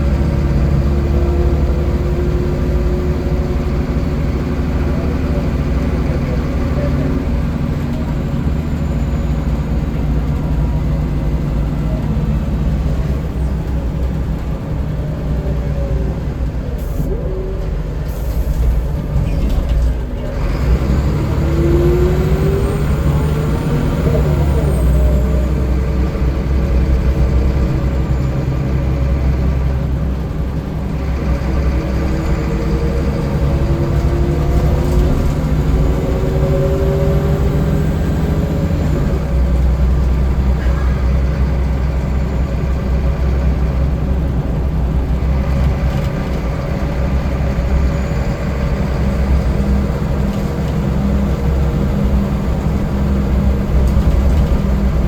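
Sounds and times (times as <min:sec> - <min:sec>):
bus engine droning with whine: 0:00.0 - 0:55.0.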